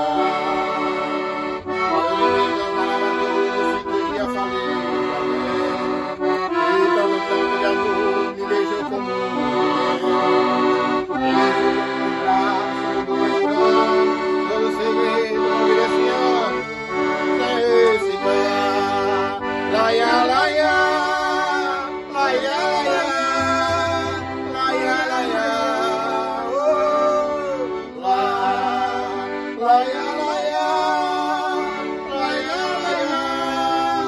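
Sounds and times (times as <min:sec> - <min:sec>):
accordion playing melody: 0:00.0 - 0:34.0.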